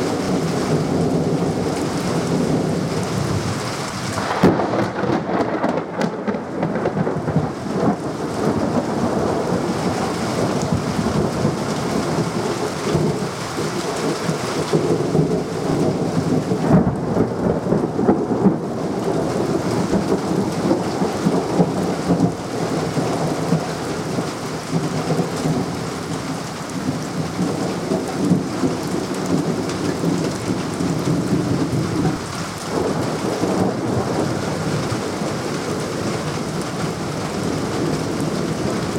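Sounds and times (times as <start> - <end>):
rain falling: 0.0 - 38.9
thunder rumbling: 0.0 - 38.9.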